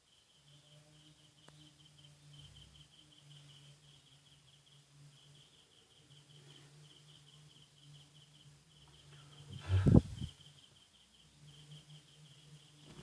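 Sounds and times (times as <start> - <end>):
insect chirping: 0.0 - 13.0
low steady hum: 0.0 - 13.0.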